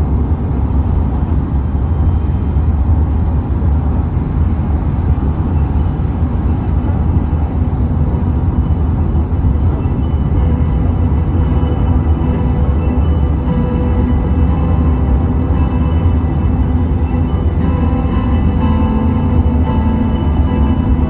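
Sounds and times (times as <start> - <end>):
road noise inside vehicle cabin: 0.0 - 21.0.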